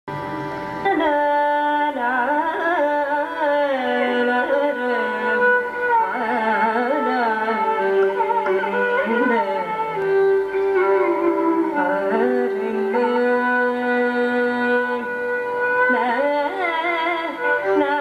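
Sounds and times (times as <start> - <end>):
violin accompaniment: 0.0 - 18.0
woman singing ornamented melody: 0.9 - 18.0.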